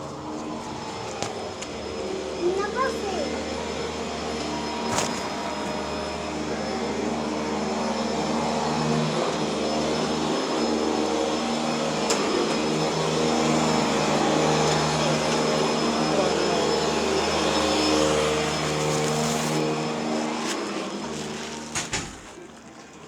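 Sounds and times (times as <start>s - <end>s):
elevator mechanical hum: 0.0s - 23.0s.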